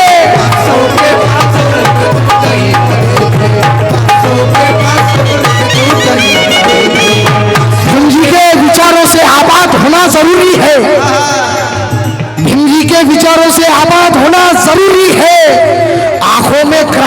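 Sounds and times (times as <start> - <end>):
fast hand-drum rhythm: 0.0 - 15.8.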